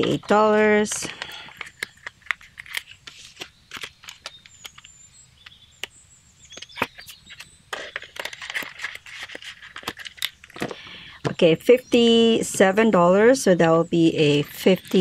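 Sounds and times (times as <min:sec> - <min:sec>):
banknotes rustling and crinkling: 0:00.0 - 0:11.4, 0:14.2 - 0:15.0.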